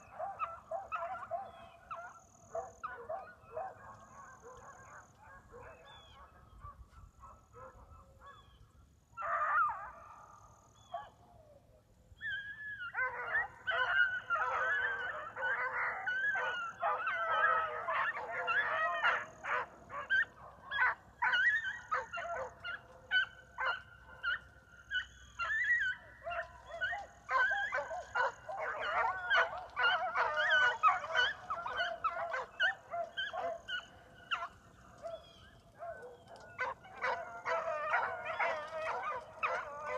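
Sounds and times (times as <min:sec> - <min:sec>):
hounds baying: 0:00.0 - 0:08.5, 0:09.2 - 0:11.4, 0:12.2 - 0:39.9.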